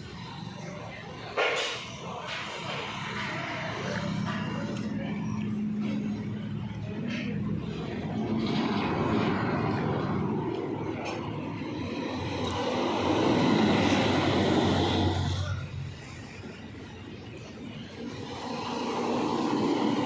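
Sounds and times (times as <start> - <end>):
vehicle passing by: 2.0 - 16.6, 17.4 - 20.0.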